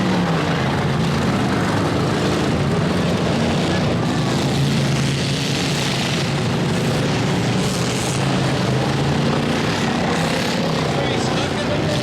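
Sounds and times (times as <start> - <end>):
car engines running hard: 0.0 - 12.0.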